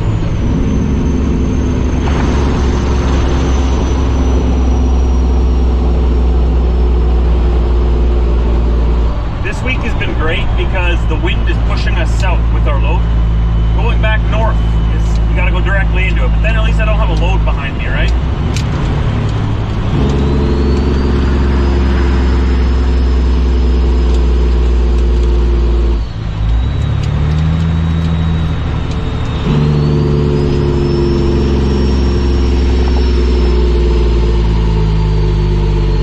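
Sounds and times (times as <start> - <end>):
diesel truck engine pulling under load: 0.0 - 36.0
high whine: 0.0 - 36.0.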